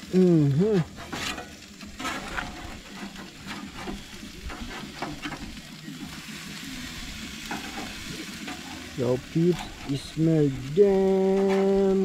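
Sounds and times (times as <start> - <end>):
fish sizzling: 0.0 - 12.0
metal spatula scraping grill grate: 0.6 - 12.0.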